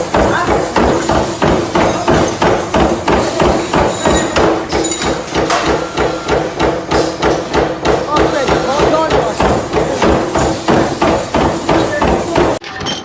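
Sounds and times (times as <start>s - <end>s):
machine hammering rhythmically: 0.0s - 12.6s.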